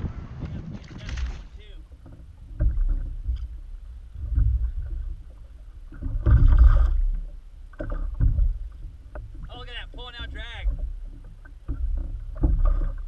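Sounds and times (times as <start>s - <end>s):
low rumble: 0.0s - 13.0s
water slapping against kayak hull: 0.0s - 13.0s.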